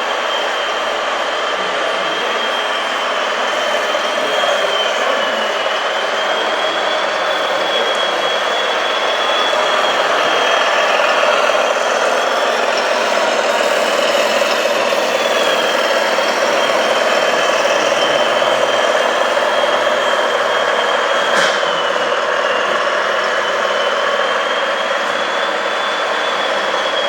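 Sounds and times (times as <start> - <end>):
model machine motor whine: 0.0 - 27.0.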